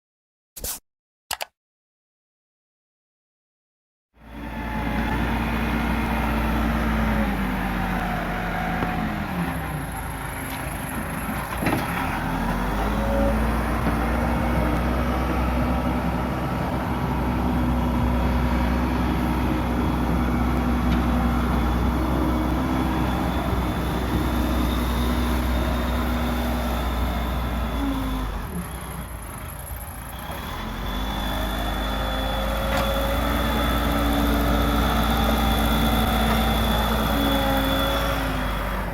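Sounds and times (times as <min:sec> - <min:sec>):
diesel engine running hard: 0:04.2 - 0:38.9.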